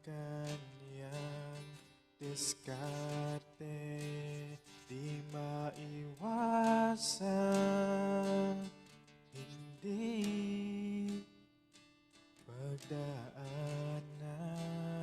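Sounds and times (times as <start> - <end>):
slow acoustic guitar ballad: 0.0 - 15.0.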